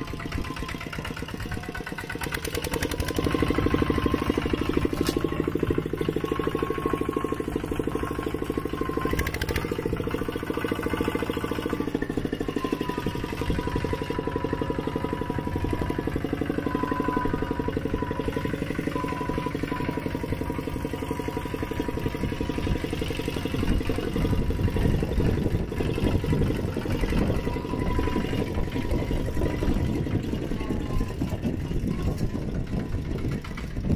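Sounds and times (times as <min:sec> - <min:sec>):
tractor engines running: 0:00.0 - 0:33.9.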